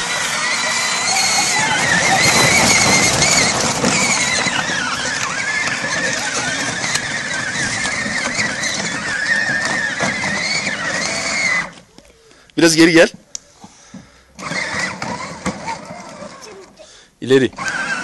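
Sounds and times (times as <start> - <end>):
wheels churning through slush: 0.0 - 11.9, 14.4 - 18.0
toy car electric motors whining: 0.0 - 12.4, 14.3 - 18.0.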